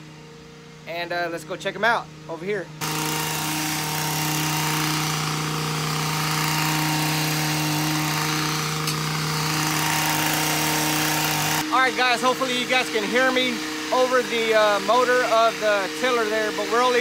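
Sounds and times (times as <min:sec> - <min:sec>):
tiller engine running: 0:02.8 - 0:17.0
tines churning soil: 0:02.8 - 0:17.0.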